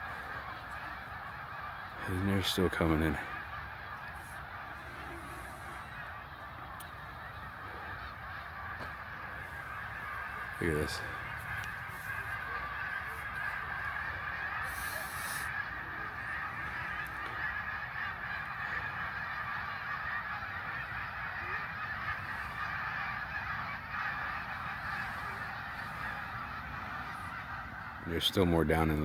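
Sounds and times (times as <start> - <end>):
flock of geese honking: 0.0 - 29.0.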